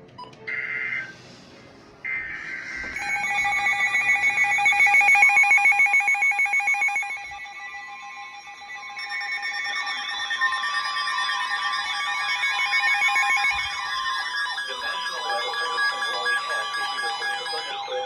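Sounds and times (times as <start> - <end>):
electronic alarm pulsing high tones: 2.0 - 18.0.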